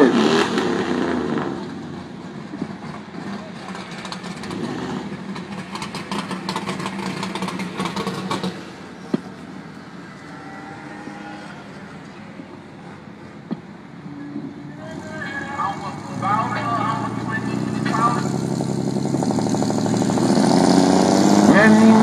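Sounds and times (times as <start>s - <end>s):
drag car engines running: 0.0s - 10.4s, 11.4s - 22.0s.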